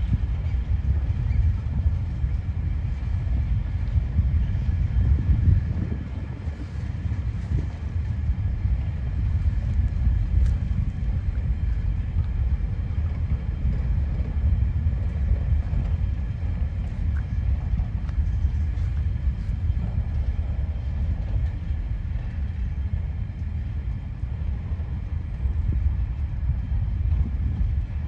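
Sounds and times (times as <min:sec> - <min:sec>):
freight train rumbling by: 0:00.0 - 0:28.0.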